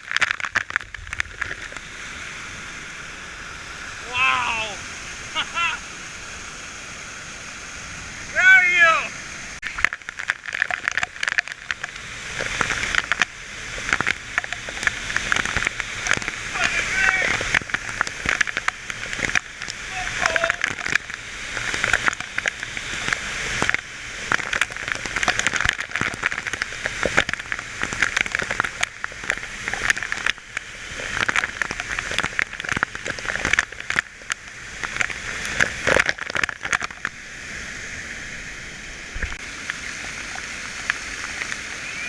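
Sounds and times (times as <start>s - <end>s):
water spattering and splashing: 0.0s - 42.0s.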